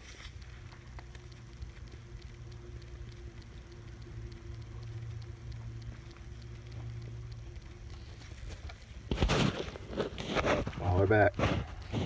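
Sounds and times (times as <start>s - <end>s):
grit crackling in gloved hand: 0.0s - 12.0s
steady low hum: 0.0s - 12.0s.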